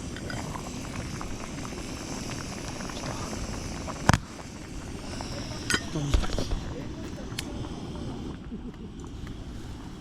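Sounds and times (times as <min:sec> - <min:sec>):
campfire hissing and crackling: 0:00.0 - 0:10.0.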